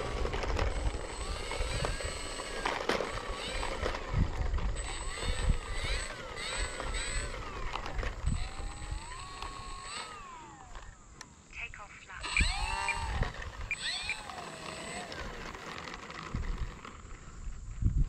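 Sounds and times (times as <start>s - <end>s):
wind buffeting microphone: 0.0s - 10.7s, 12.3s - 15.6s, 16.2s - 18.0s
model plane propeller whining: 0.0s - 18.0s.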